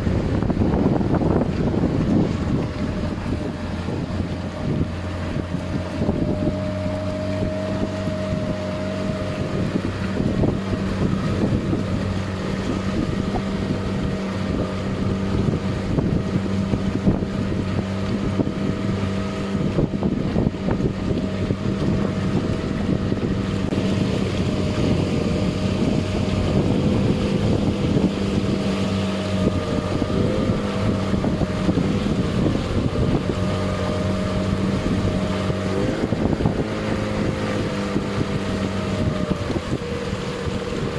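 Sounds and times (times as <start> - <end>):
motorboat engine running: 0.0 - 40.9
water rushing past hull: 0.0 - 40.9
wind buffeting microphone: 0.0 - 40.9.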